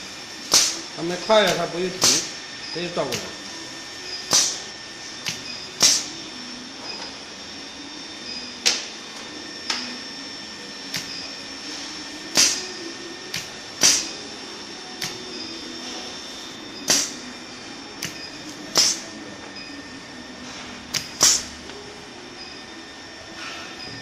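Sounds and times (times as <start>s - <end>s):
machine high-pitched whine: 0.0s - 24.0s.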